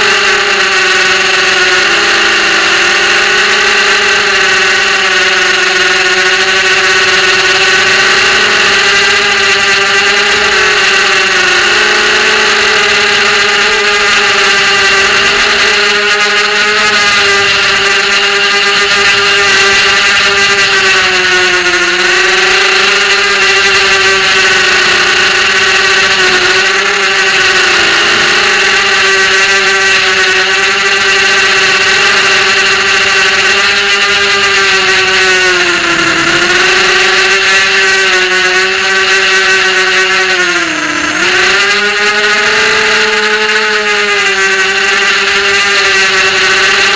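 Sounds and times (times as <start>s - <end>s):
quadcopter motors whining: 0.0s - 46.9s.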